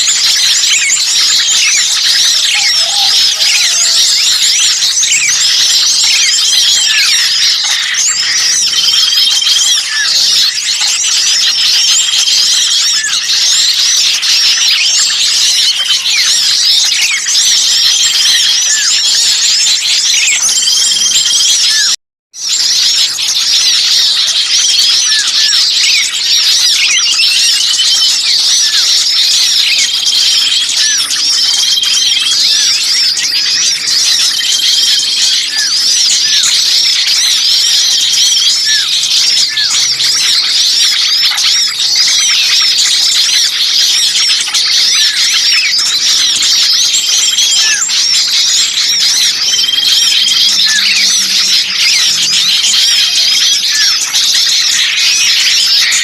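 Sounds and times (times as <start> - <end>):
songbirds chirping in alarm: 0.0 - 56.0.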